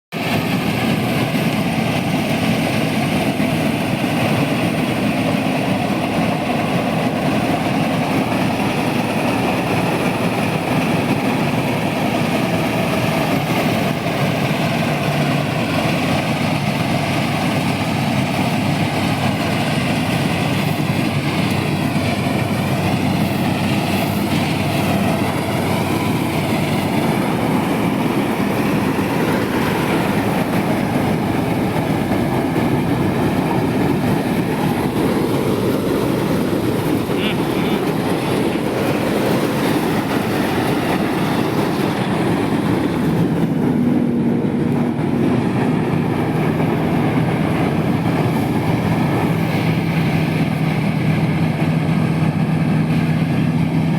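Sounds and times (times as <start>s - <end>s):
combine harvester droning: 0.1s - 53.9s.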